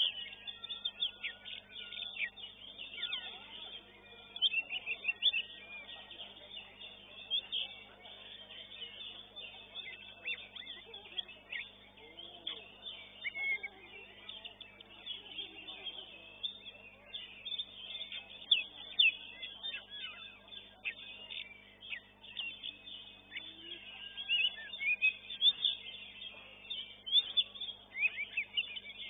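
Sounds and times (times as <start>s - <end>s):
birds whistling and chirping: 0.0s - 29.0s
steady low hum: 0.0s - 29.0s.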